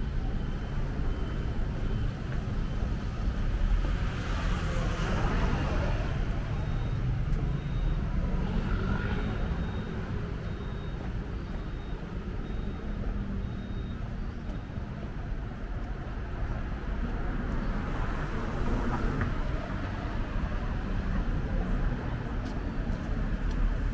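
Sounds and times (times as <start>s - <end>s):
passing vehicles rumbling: 0.0s - 23.9s.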